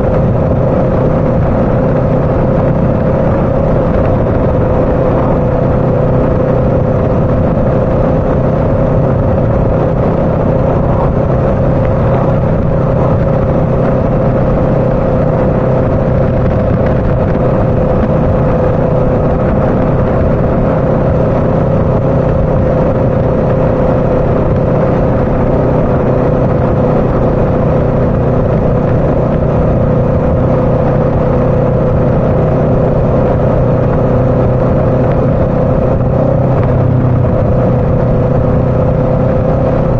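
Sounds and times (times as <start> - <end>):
motorcycle engine cruising: 0.0 - 39.9
riding noise rush: 0.0 - 39.9.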